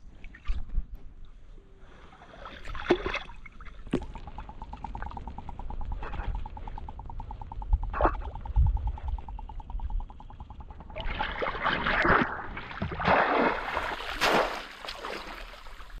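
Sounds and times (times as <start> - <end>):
water splashing: 2.3 - 16.0.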